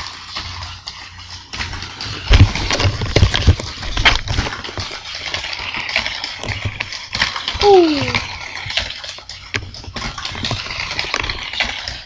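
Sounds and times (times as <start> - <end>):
toy car clattering over plastic track: 0.0 - 12.0.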